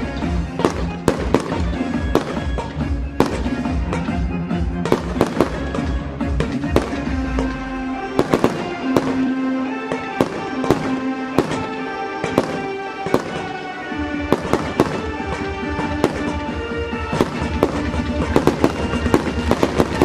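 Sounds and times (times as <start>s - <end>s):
music with long held notes: 0.0s - 20.0s
fireworks bangs: 0.4s - 4.1s, 4.8s - 20.0s.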